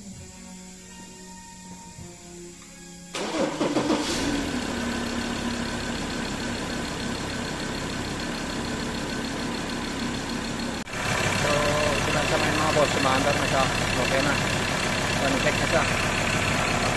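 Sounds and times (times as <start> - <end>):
diesel engine starting and idling: 3.1 - 16.9.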